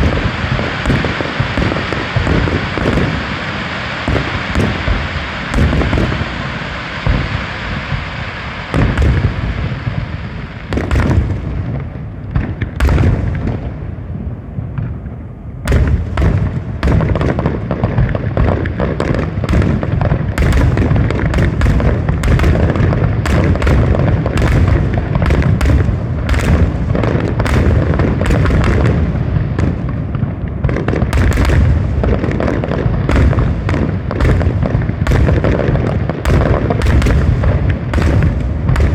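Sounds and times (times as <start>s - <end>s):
fireworks exploding: 0.0s - 38.9s.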